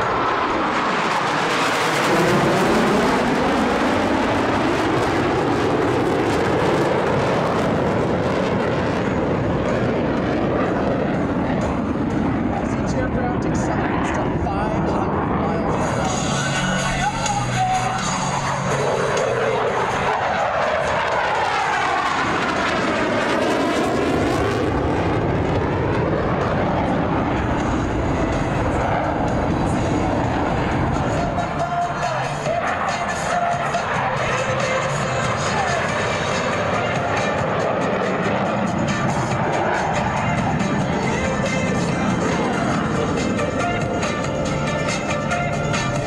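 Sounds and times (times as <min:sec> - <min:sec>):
jet roar flying past: 0:00.0 - 0:46.0.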